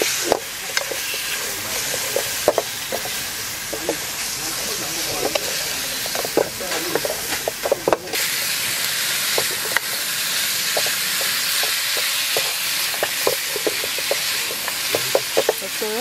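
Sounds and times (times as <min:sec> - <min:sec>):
meat sizzling in frying pan: 0:00.0 - 0:16.0
spatula scraping pan: 0:00.0 - 0:16.0.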